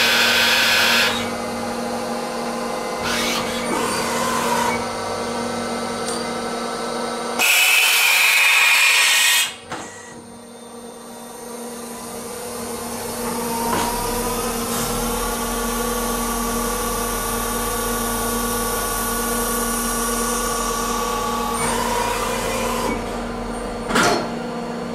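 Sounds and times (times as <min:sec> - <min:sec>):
lathe motor and spindle hum: 0:00.0 - 0:09.6, 0:10.2 - 0:24.9.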